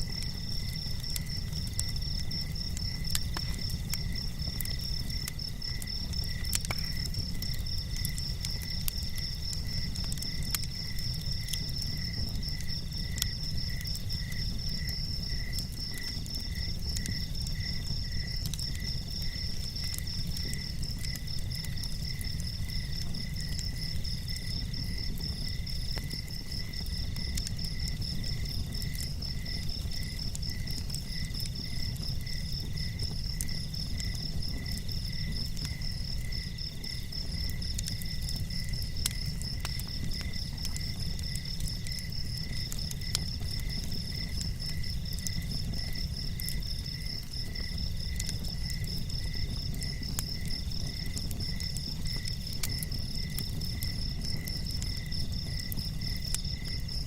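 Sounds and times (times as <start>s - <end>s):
crickets chirping trills: 0.0s - 57.0s
faint ticks: 0.1s - 46.9s, 47.5s - 57.0s.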